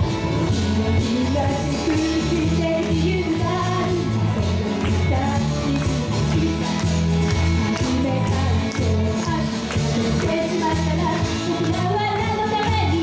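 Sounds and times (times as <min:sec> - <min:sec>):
electric guitars: 0:00.0 - 0:13.0
woman singing into microphone: 0:00.5 - 0:13.0.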